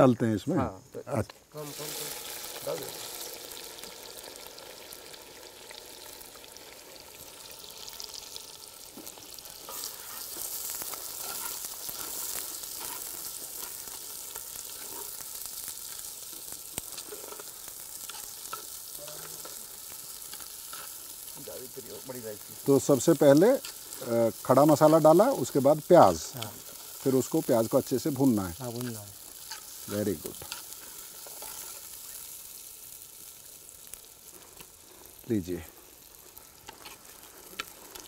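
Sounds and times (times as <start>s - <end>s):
onions sizzling in hot oil: 0.0s - 38.0s.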